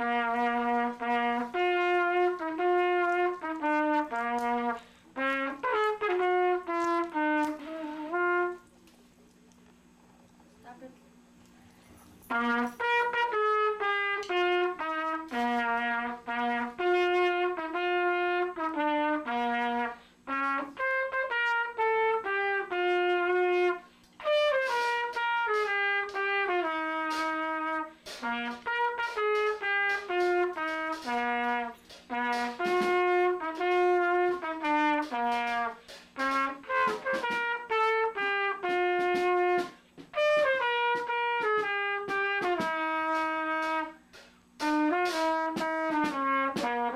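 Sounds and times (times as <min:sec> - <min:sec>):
trumpet playing a tune: 0:00.0 - 0:09.0, 0:11.8 - 0:46.9.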